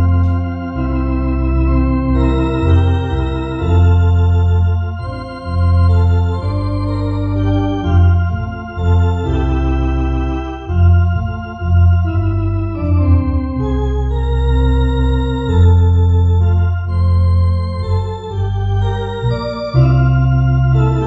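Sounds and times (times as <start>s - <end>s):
electronic organ playing hymn: 0.0s - 21.0s.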